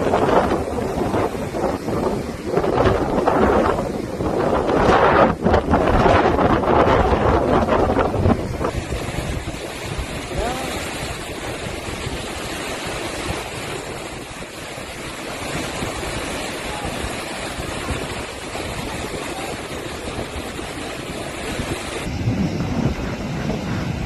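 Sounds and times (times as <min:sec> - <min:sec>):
strong wind rushing: 0:00.0 - 0:24.0
surging sea water: 0:00.0 - 0:24.0.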